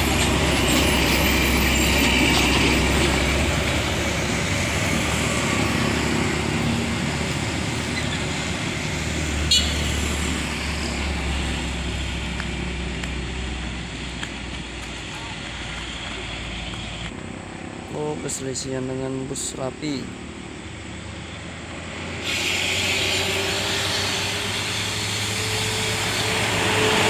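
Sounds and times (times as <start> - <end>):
diesel truck engines running: 0.0 - 27.0
tyres on road: 0.0 - 27.0.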